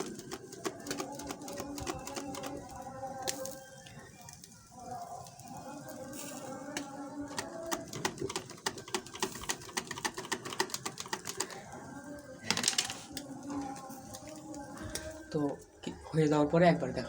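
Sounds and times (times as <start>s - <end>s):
crackling and popping on grill: 0.0s - 17.0s.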